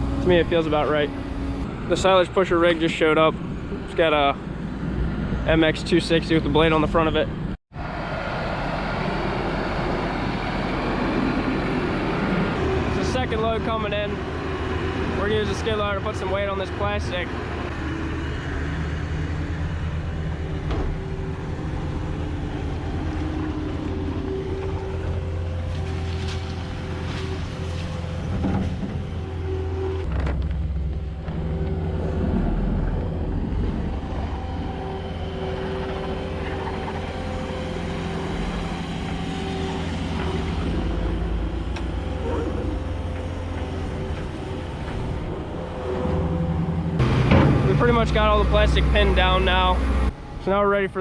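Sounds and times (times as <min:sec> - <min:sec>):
skid loader diesel engine working: 0:00.0 - 0:03.0, 0:07.8 - 0:51.0.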